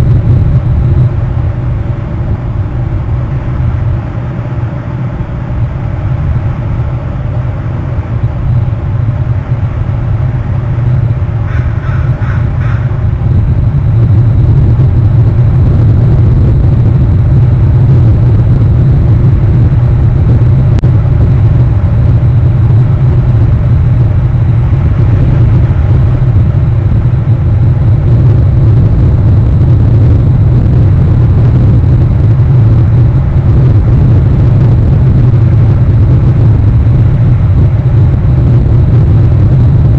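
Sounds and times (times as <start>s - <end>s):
loud low rumble: 0.0s - 39.9s.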